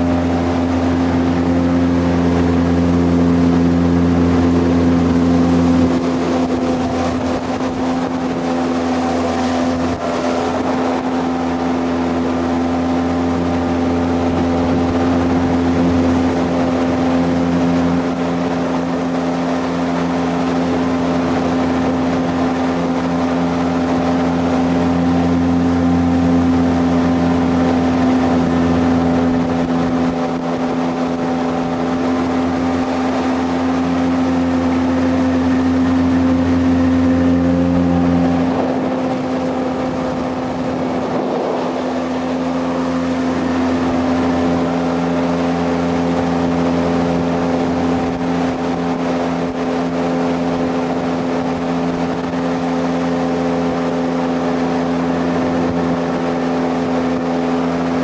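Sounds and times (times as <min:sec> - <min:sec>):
jet boat engine drone: 0:00.0 - 0:58.0
water and wind noise: 0:00.0 - 0:58.0.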